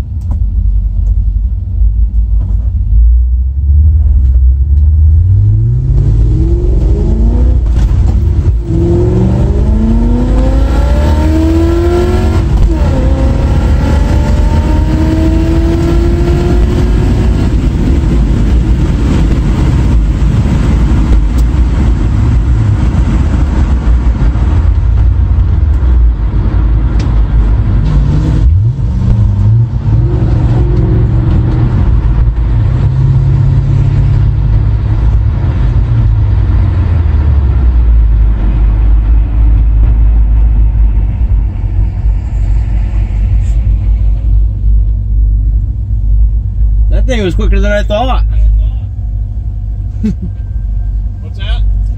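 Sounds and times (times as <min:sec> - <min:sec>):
road and wind noise: 0:00.0 - 0:51.9
car engine accelerating hard: 0:03.3 - 0:51.9.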